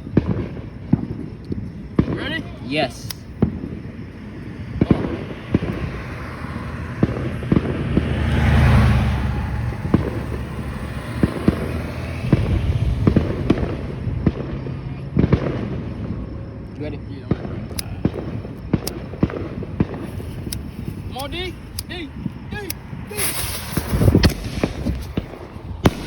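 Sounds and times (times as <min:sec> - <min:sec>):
fireworks popping and banging: 0:00.0 - 0:26.0
rushing noise and low rumble: 0:03.3 - 0:16.6, 0:17.2 - 0:26.0.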